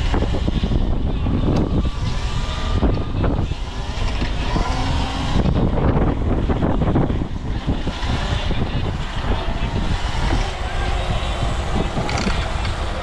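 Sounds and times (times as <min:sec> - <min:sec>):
road rumble: 0:00.0 - 0:13.0
traffic: 0:00.0 - 0:13.0
wind: 0:00.0 - 0:13.0.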